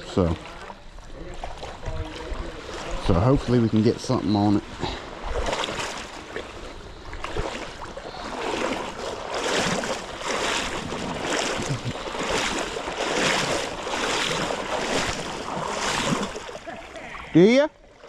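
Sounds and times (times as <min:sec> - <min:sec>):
river water rushing: 0:01.5 - 0:18.0.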